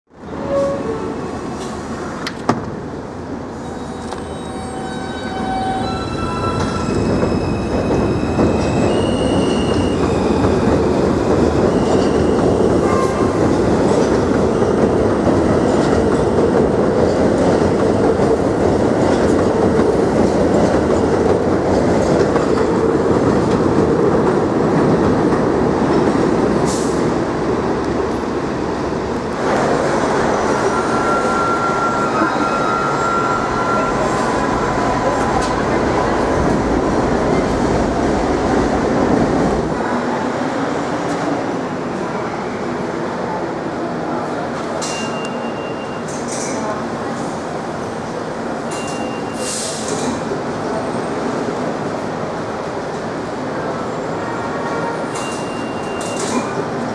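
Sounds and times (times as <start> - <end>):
train wheels rumbling on rail: 0.2 - 56.9.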